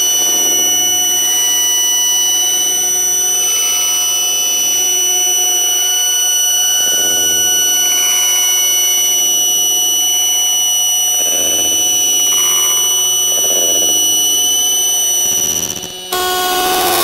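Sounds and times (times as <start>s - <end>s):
high-pitched electronic tones: 0.0s - 17.0s
rough wavering low drone: 0.0s - 17.0s.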